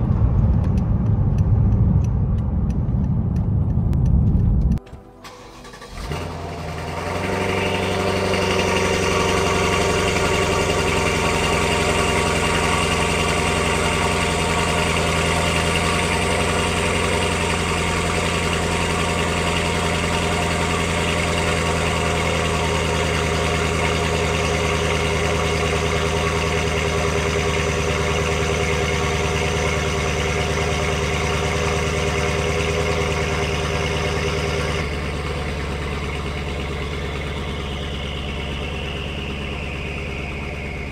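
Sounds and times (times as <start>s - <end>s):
car engine starting and idling: 0.0s - 40.9s.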